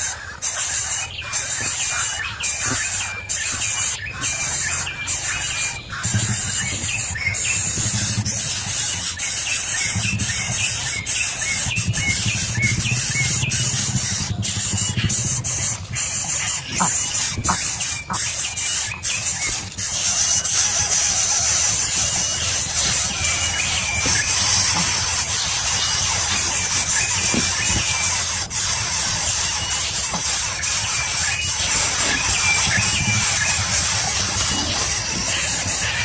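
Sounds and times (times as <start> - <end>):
young birds squealing: 0.0 - 36.0.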